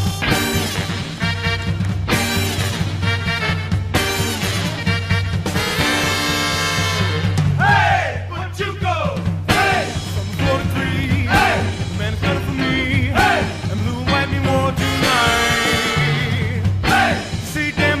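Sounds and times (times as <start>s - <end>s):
background music with bass line: 0.0s - 18.0s.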